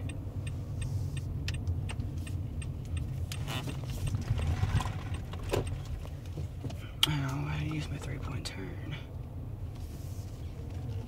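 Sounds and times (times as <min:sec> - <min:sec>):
car engine idling: 0:00.0 - 0:11.0
turn signal clicking: 0:00.0 - 0:11.0.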